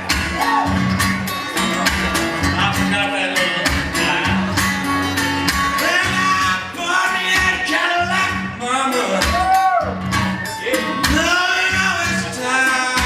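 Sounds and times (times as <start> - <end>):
walking bass line: 0.0 - 6.7, 7.3 - 13.0
strummed acoustic guitar: 0.0 - 13.0.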